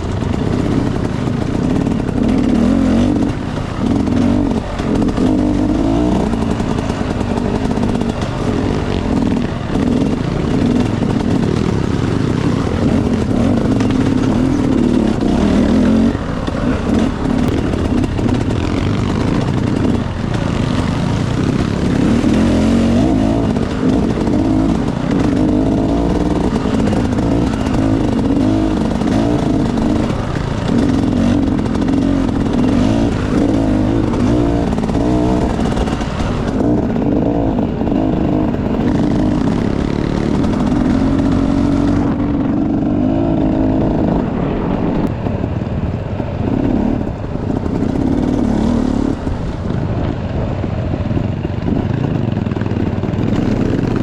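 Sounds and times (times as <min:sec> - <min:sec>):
dirt bike engine revving: 0:00.0 - 0:49.9, 0:50.7 - 0:54.0.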